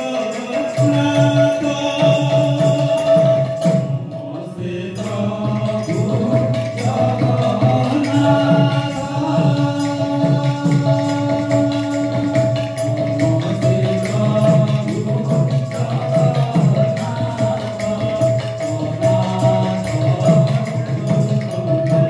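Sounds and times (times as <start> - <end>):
drum strokes: 0.0 - 22.0
jingling percussion: 0.0 - 22.0.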